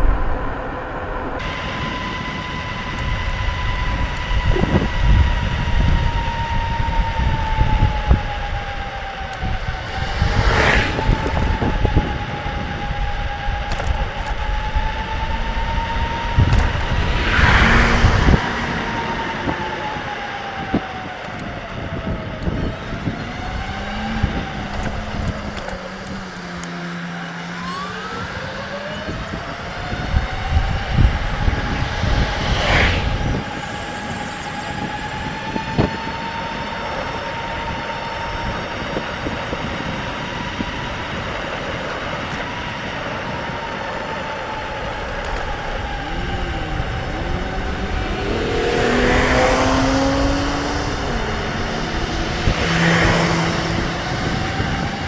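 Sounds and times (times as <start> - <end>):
wind rumble on microphone: 0.0 - 55.0
electric motor whine: 1.2 - 55.0.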